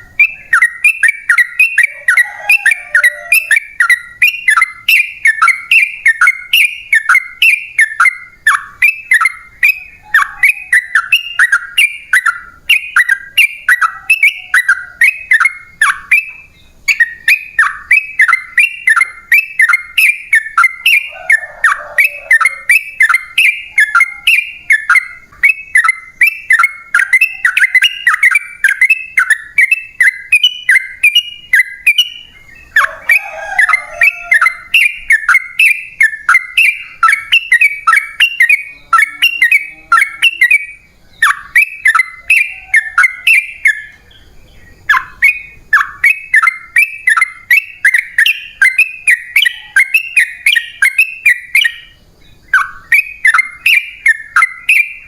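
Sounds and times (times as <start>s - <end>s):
bird singing chattering notes: 0.0s - 55.0s.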